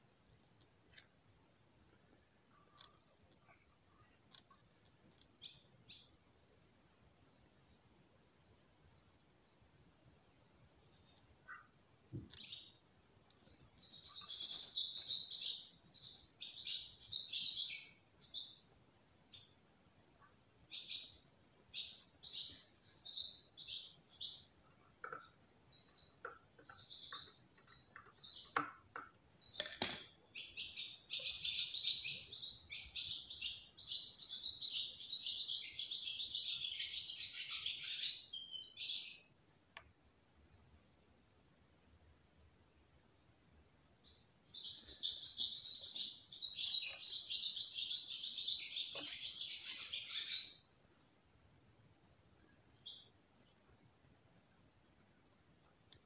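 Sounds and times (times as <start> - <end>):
small birds singing: 0.0 - 39.9, 43.9 - 51.4, 52.2 - 54.0, 54.8 - 56.0.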